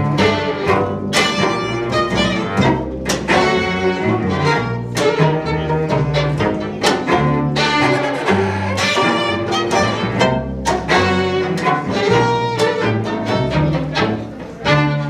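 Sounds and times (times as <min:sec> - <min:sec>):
string quartet playing: 0:00.0 - 0:15.0.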